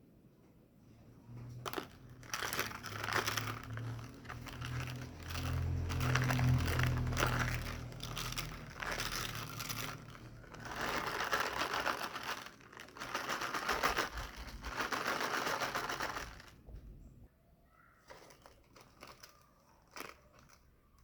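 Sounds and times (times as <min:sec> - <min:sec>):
crackling handling noise: 0:00.3 - 0:17.3, 0:18.0 - 0:21.0.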